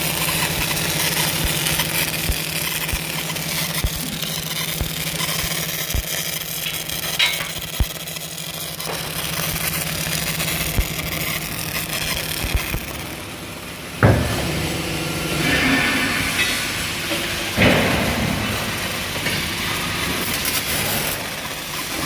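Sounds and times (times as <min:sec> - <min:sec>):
burst of machine noise: 0:00.0 - 0:21.9
factory machinery humming: 0:00.0 - 0:22.0.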